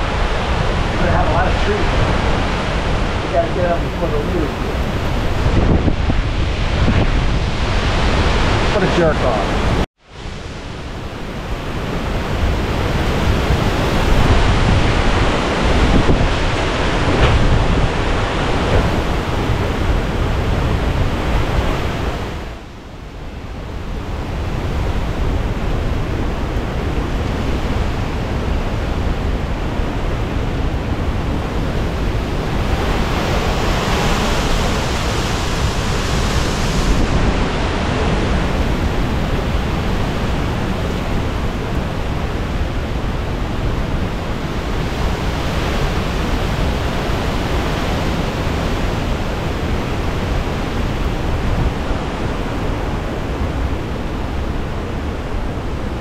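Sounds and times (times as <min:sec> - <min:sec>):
hissy wind gust: 0:00.0 - 0:56.0
strong wind buffeting microphone: 0:00.0 - 0:56.0.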